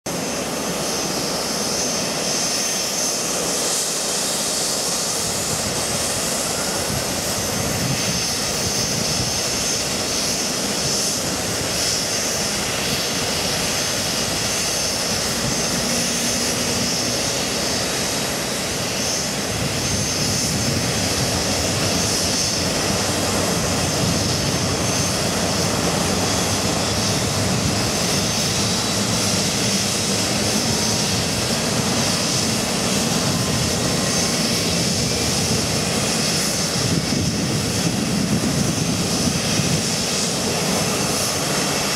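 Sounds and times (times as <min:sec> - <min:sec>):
jet engine turbine noise: 0:00.1 - 0:41.9.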